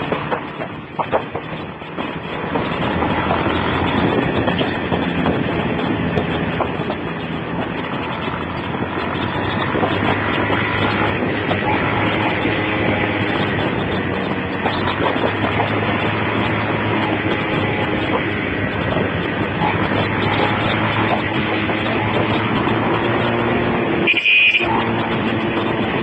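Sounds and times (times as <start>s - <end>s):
sharp knocks: 0.0s - 23.6s
motorcycle engine running: 0.0s - 26.0s
wind rushing over microphone: 0.0s - 26.0s.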